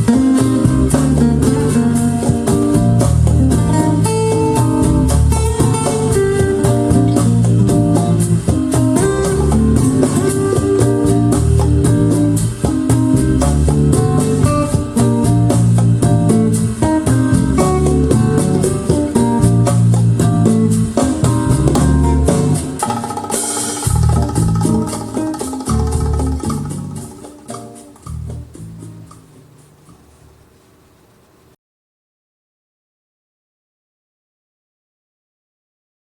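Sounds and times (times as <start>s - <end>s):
plucked guitar: 0.0s - 29.7s
jazz-fusion music over loudspeakers: 0.0s - 29.8s
quick percussion: 0.0s - 29.8s
busy bass line: 0.0s - 29.9s.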